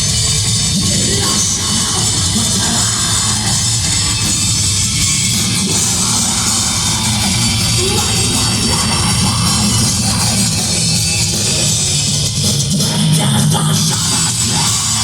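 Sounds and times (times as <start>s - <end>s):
distorted guitars: 0.0s - 15.0s
drum kit: 0.0s - 15.0s.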